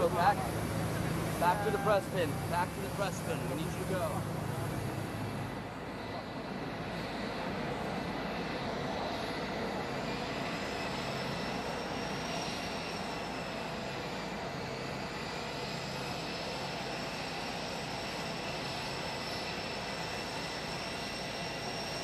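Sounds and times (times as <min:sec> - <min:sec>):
jet turbine whine: 0:00.0 - 0:22.0.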